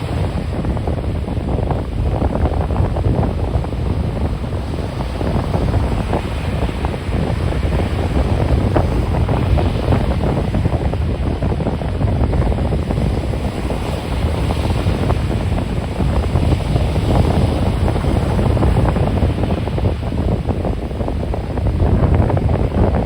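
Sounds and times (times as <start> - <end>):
ocean surf washing in: 0.0 - 23.0
wind buffeting microphone: 0.0 - 23.0.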